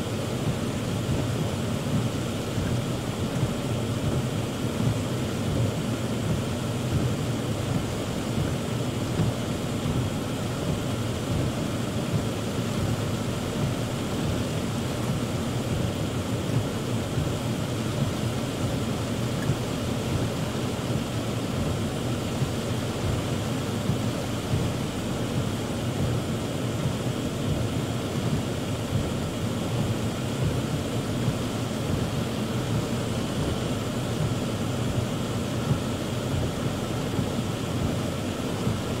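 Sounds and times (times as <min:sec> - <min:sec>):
heavy rain on car roof: 0:00.0 - 0:39.0.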